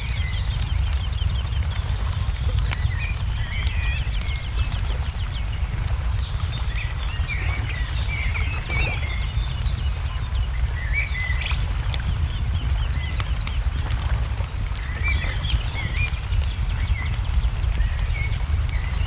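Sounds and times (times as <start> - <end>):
low rumble: 0.0 - 19.0
small birds chirping: 0.0 - 19.0
wood fire crackling and popping: 0.0 - 19.0.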